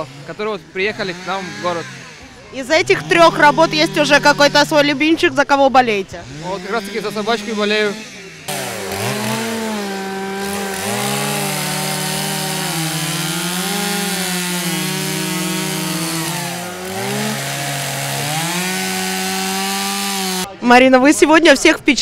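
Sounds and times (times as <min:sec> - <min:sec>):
chainsaws cutting ice: 0:00.0 - 0:05.3, 0:06.1 - 0:20.5.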